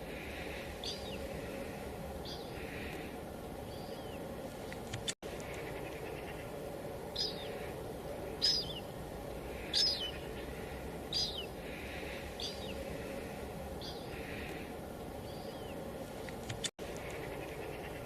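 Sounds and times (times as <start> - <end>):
bird chirping: 0.0 - 3.0, 3.6 - 4.3, 5.3 - 18.0
light drizzle hissing: 0.0 - 18.0.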